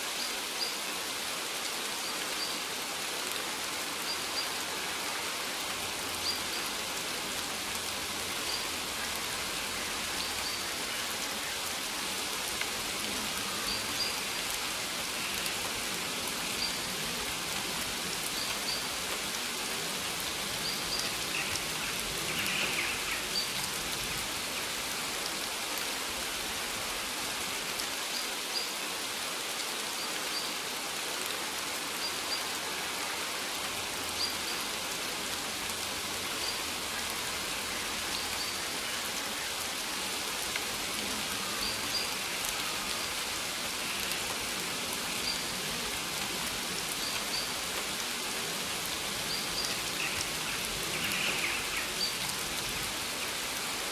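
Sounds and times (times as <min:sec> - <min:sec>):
rain falling on leaves: 0:00.0 - 0:53.9.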